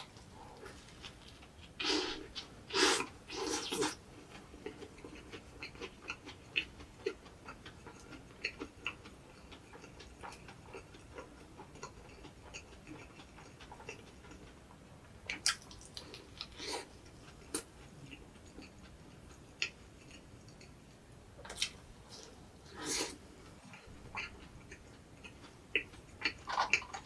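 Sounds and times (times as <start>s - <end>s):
chewing: 0.0s - 27.0s.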